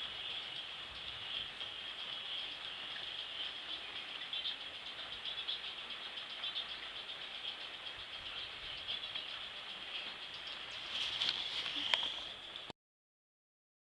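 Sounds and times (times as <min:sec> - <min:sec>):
steady rain falling: 0:00.0 - 0:12.7.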